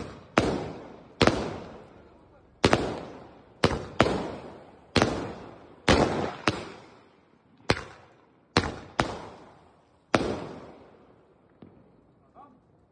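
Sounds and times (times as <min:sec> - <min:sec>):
firework bangs with echo: 0:00.0 - 0:11.9.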